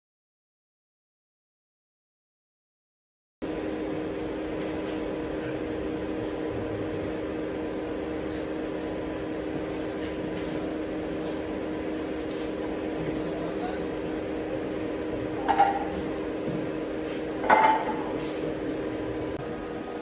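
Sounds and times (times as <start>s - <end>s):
steady mechanical hum: 3.4s - 20.0s.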